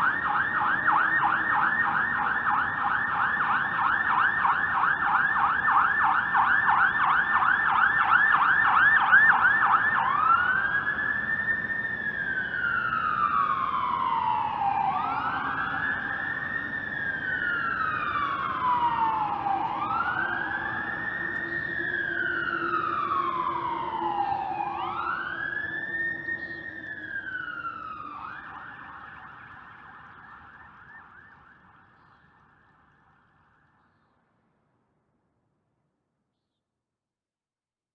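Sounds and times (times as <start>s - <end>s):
ambulance siren yelp and wail: 0.0s - 34.0s.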